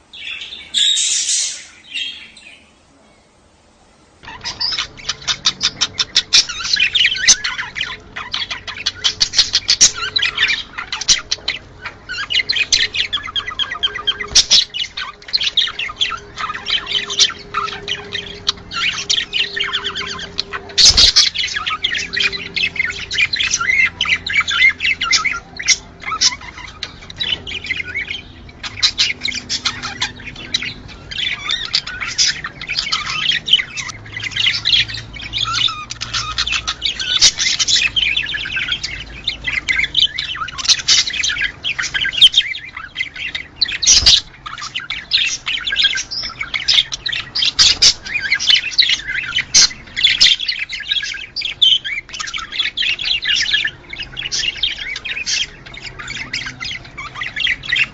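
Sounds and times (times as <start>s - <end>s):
budgerigars chattering: 0.0s - 2.8s, 4.2s - 57.9s.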